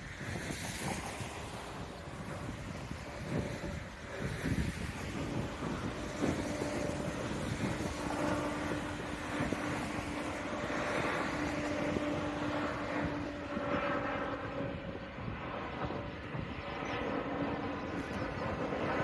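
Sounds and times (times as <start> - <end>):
jet engines humming: 0.0 - 19.0
wind buffeting microphone: 0.0 - 19.0.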